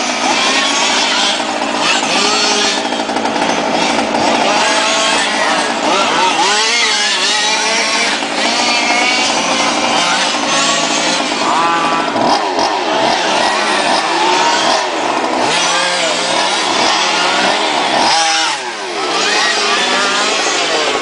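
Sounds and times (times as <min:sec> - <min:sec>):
model race car engines revving: 0:00.0 - 0:21.0.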